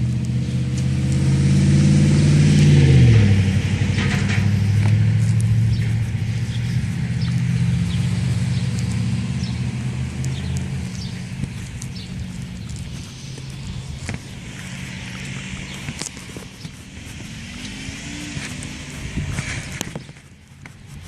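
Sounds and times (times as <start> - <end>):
vehicle engine passing by: 0.0 - 21.0.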